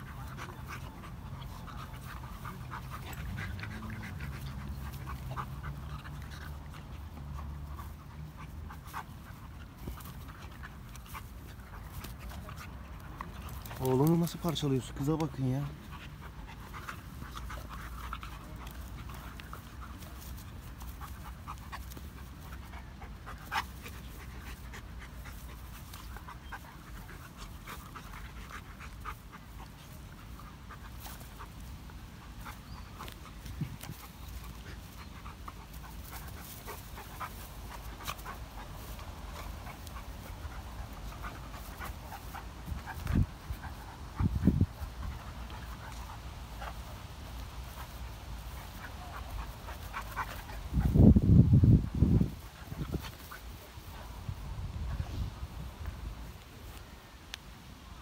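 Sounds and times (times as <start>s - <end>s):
dog panting: 0.0s - 56.4s.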